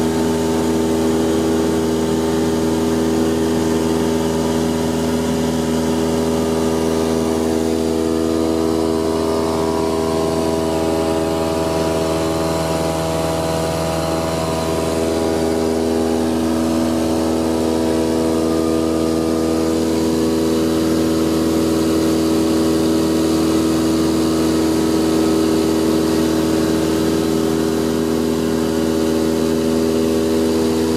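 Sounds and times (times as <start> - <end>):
propeller plane engine drone: 0.0 - 30.9.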